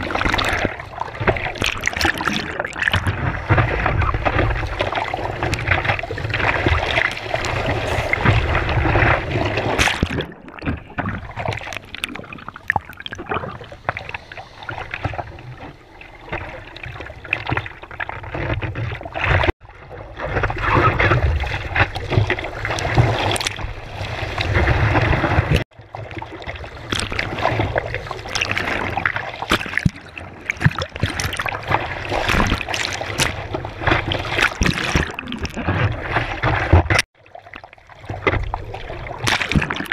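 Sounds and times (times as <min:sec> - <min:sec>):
seawater splashing and sloshing: 0:00.0 - 0:39.9.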